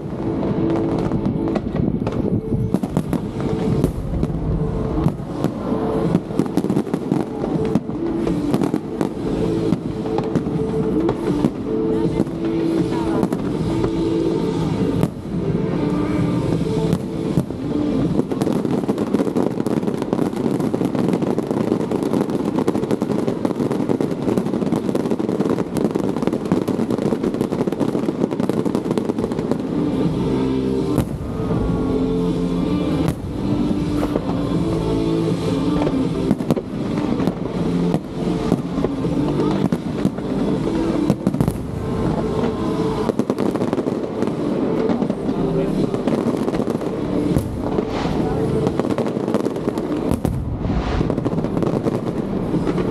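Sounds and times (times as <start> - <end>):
fireworks booming and crackling: 0.0 - 52.9.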